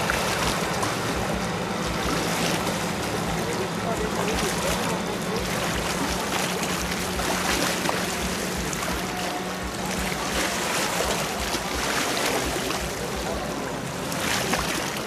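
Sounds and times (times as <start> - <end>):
faint music: 0.0 - 15.0
river water rushing: 0.0 - 15.0.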